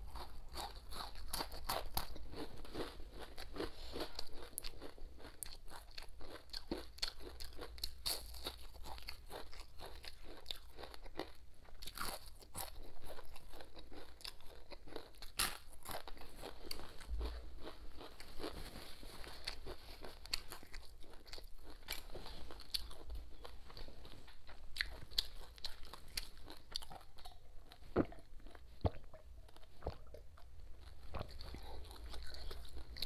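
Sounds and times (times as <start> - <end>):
person crunching and chewing: 0.0 - 33.0.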